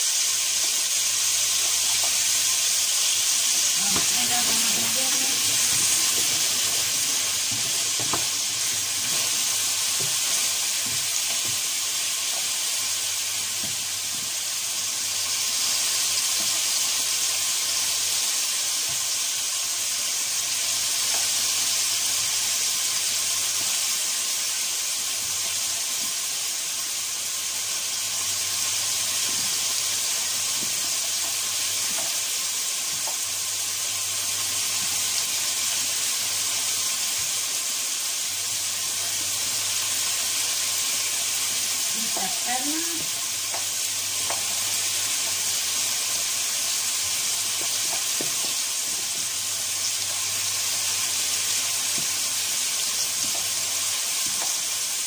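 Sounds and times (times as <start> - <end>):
vegetables sizzling in a frying pan: 0.0 - 55.0.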